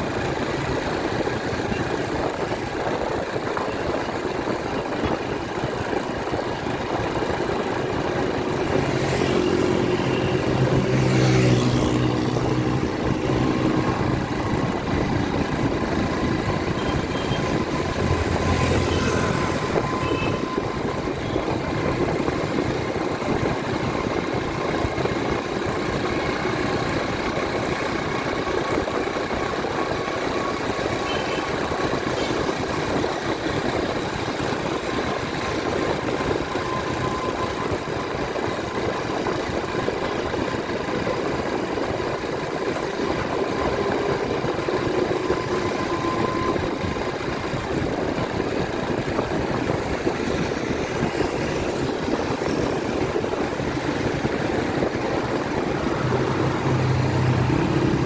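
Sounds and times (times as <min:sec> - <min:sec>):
motorcycle engine: 0:00.0 - 0:58.0
road noise: 0:00.0 - 0:58.0
vehicles passing: 0:03.1 - 0:58.0.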